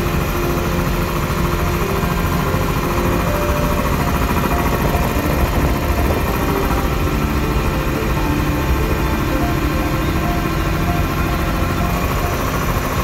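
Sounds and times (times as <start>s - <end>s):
air compressor pump running: 0.0s - 13.0s.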